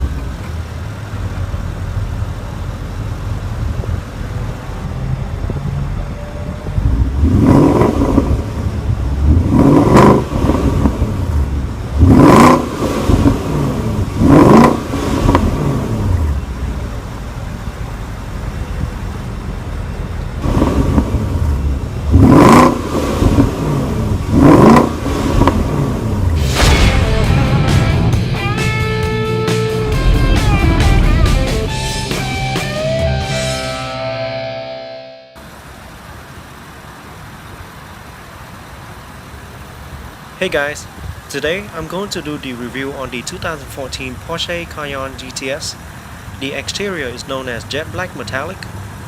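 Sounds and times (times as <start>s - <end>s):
car engine idling and revving: 0.0s - 34.8s, 35.4s - 49.0s.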